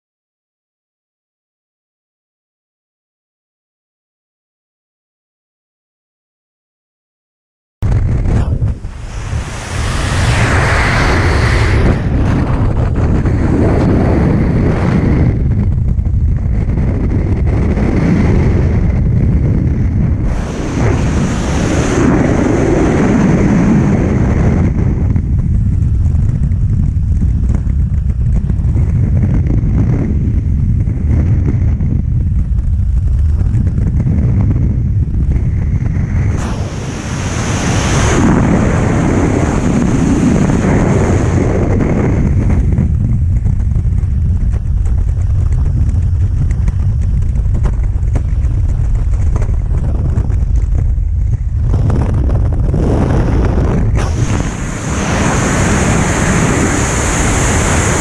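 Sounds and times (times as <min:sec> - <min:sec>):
wind buffeting microphone: 0:07.8 - 0:58.0.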